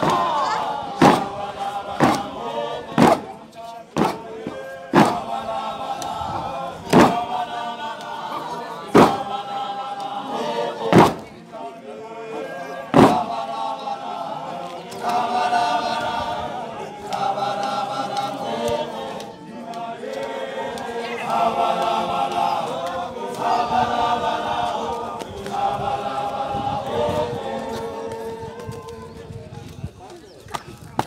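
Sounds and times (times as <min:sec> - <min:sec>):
men singing in chanted phrases: 0:00.0 - 0:29.4.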